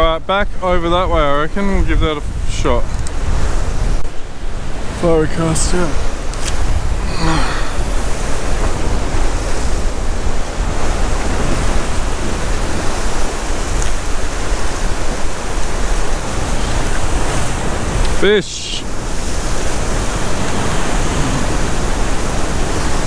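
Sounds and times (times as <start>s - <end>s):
waves breaking over rocks: 3.1s - 23.0s.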